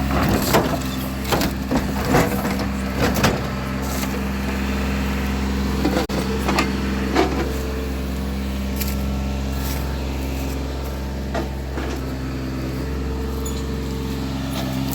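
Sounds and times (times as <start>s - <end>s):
radial aircraft engines running: 0.0s - 14.9s.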